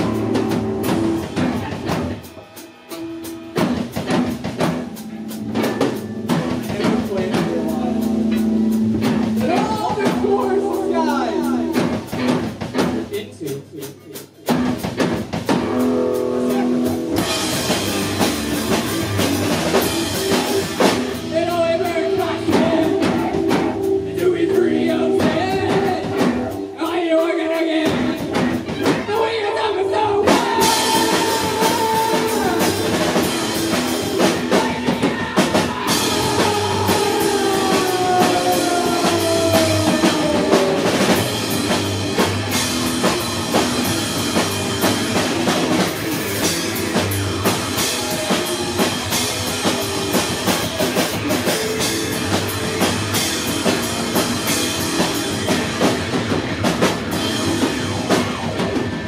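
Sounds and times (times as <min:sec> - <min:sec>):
distorted electric guitar: 0:00.0 - 0:13.2, 0:14.4 - 0:59.0
drum kit playing: 0:00.0 - 0:59.0.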